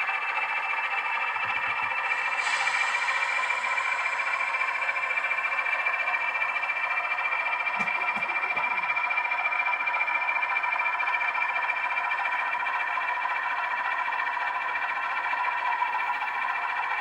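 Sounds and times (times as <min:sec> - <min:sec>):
model locomotive whine: 0:00.0 - 0:17.0.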